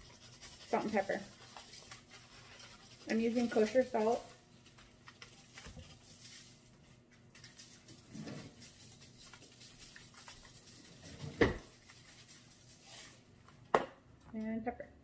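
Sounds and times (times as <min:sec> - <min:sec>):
salt grains pattering on foil: 0:00.0 - 0:13.3.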